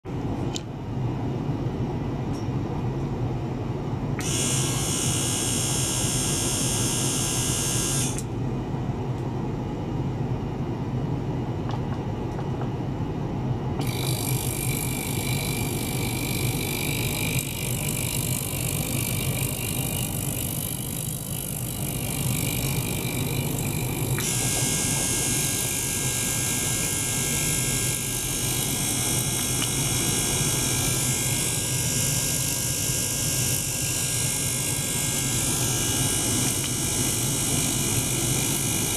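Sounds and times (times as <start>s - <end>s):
ultrasonic bath buzz and whine: 0.0s - 38.9s
circulation pump humming: 0.1s - 38.9s.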